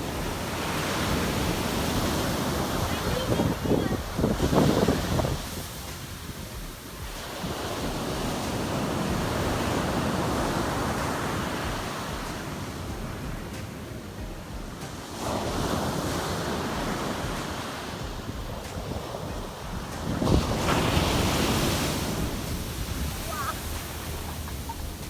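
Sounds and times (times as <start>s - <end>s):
sea surf breaking on beach: 0.0s - 25.0s
wind on microphone: 0.0s - 25.0s.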